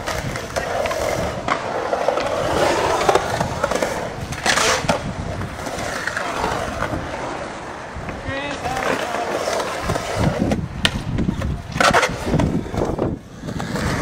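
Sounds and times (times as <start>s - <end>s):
skateboard grinding on coping: 0.0s - 14.0s
skateboard wheels rolling on concrete: 0.0s - 14.0s.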